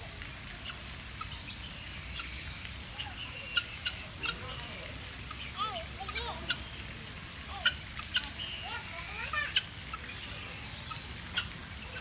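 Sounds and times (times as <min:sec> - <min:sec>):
guineafowl calling: 0:00.6 - 0:06.9, 0:07.5 - 0:12.0.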